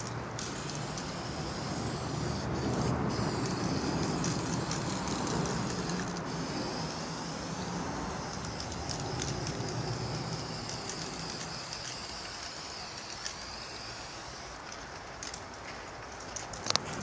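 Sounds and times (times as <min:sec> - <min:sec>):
spray paint can hissing: 0:00.0 - 0:15.4.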